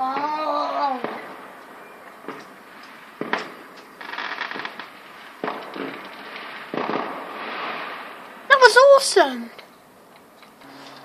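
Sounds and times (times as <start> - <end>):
firework bangs: 0.0 - 9.5
firework crackling: 0.0 - 11.0.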